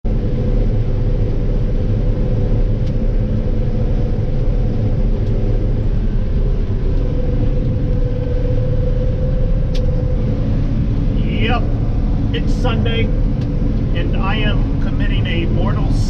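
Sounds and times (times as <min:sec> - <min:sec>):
engine rumbling: 0:00.0 - 0:16.0
faint steady hum: 0:00.1 - 0:16.0.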